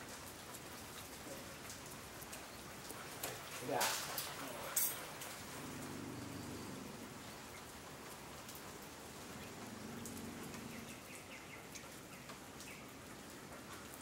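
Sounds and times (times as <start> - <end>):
water drips ticking: 0.0 - 6.4, 7.2 - 14.0
light rain on foliage: 0.0 - 14.0.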